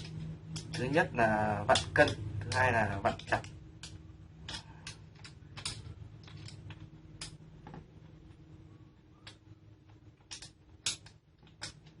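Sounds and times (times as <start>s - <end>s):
metal parts clicking: 0.0s - 7.8s, 10.2s - 12.0s.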